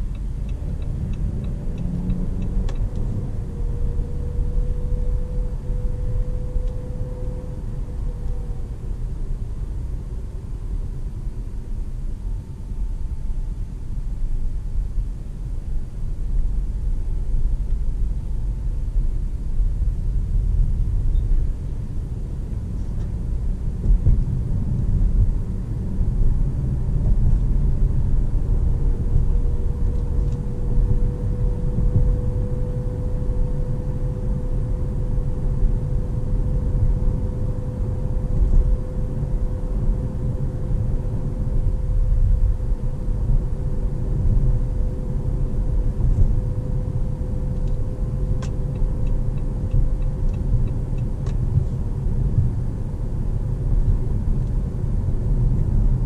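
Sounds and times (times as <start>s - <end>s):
engine and road noise rumble: 0.0s - 56.0s
faint steady whine: 0.0s - 56.0s.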